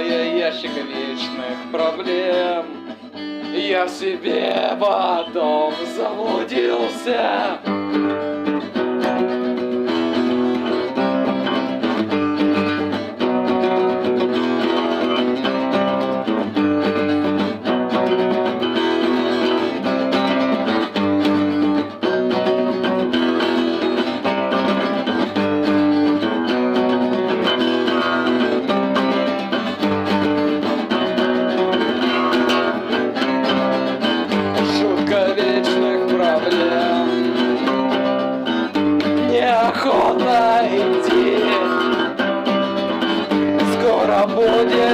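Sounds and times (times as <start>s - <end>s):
acoustic guitar strumming: 0.0s - 44.9s.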